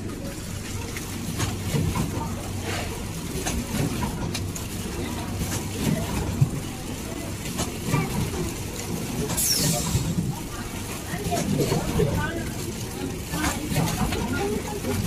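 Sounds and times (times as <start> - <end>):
packing machine humming: 0.0 - 15.0.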